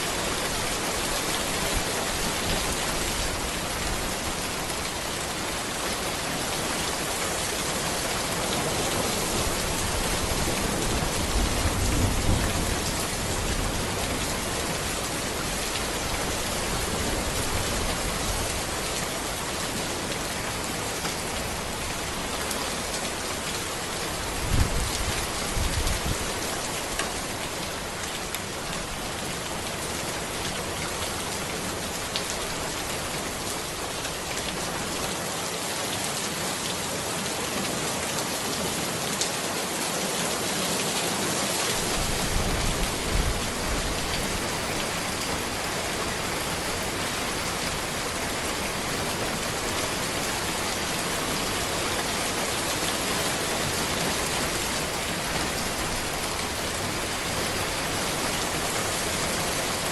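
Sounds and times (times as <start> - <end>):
rain falling on a road: 0.0 - 59.9.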